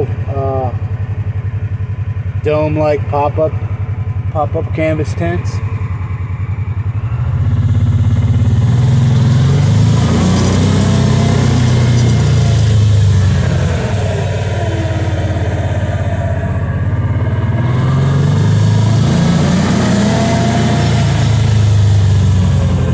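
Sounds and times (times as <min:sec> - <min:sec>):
vehicle engine revving while driving: 0:00.0 - 0:22.9.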